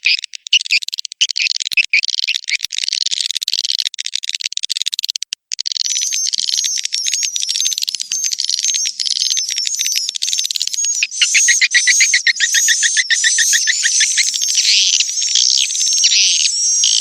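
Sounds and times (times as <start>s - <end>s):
swiftlets twittering and chirping: 0.0s - 17.0s.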